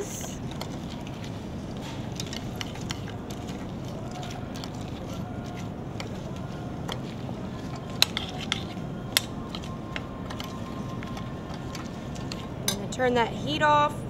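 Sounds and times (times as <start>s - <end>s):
utensil scraping a metal pot: 0.0s - 12.9s
low hum: 0.0s - 14.0s.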